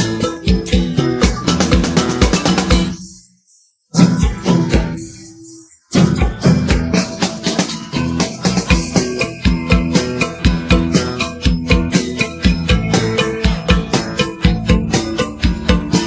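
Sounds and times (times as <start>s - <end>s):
music with drum beat and strings: 0.0s - 16.0s.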